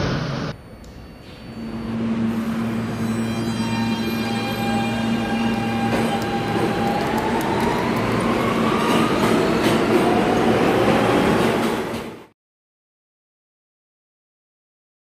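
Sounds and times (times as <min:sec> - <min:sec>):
subway train motor whine: 0:00.0 - 0:12.2
train rumble: 0:00.0 - 0:12.3.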